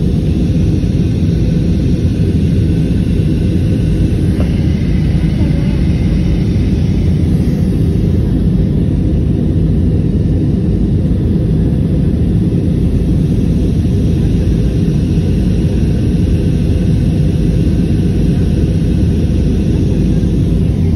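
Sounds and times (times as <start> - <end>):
airliner cabin engine rumble: 0.0 - 20.9.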